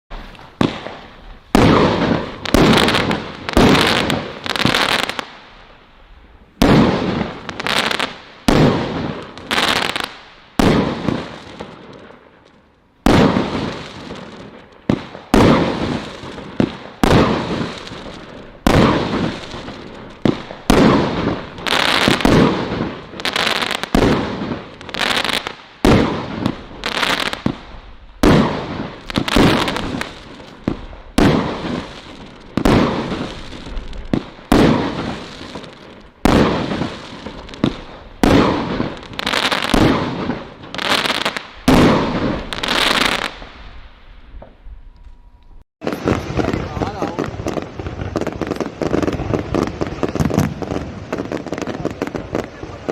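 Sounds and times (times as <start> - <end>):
firework shots crackling: 0.1 - 45.2, 45.8 - 52.9.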